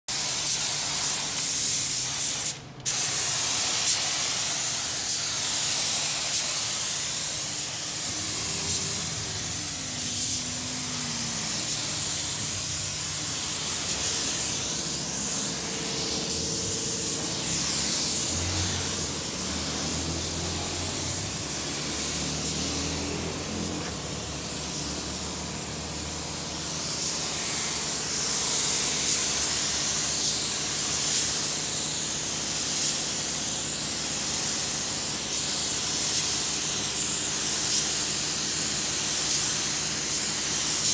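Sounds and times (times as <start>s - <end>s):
paint spray gun air hiss: 0.1s - 40.9s.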